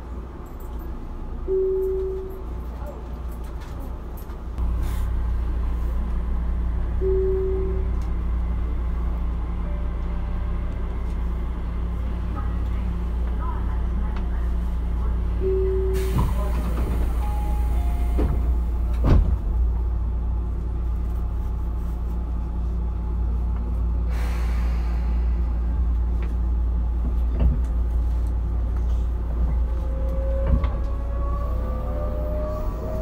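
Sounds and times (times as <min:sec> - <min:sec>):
electric train humming: 0:04.6 - 0:21.4, 0:22.4 - 0:33.0.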